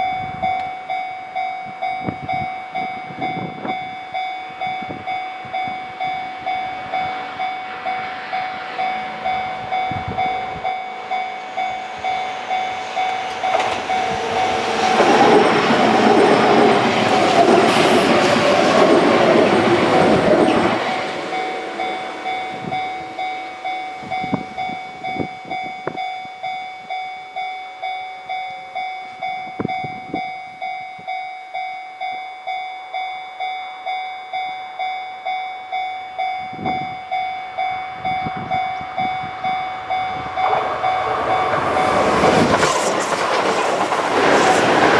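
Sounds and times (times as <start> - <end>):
train rumbling past: 0.0 - 27.9, 35.6 - 44.9
level-crossing alarm ringing: 0.0 - 44.9.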